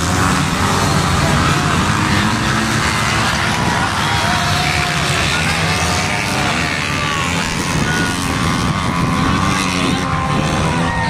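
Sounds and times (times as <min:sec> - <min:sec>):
motorcycle engine revving: 0:00.0 - 0:11.0
off-road motorcycles racing: 0:00.0 - 0:11.0.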